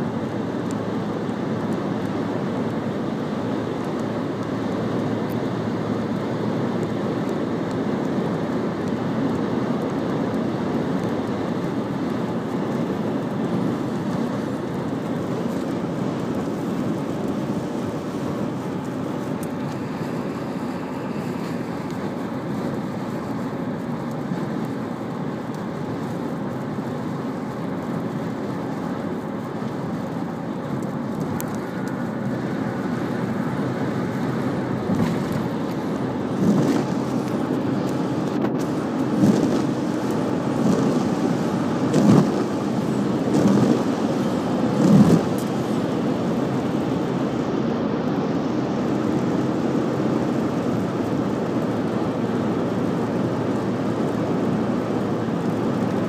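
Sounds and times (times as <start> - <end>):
road and wind noise in a car: 0.0 - 56.0.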